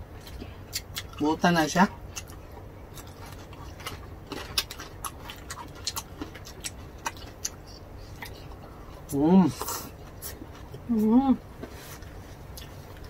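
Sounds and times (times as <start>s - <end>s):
chewing with mouth clicks: 0.1s - 1.2s, 2.0s - 10.9s, 11.6s - 13.0s.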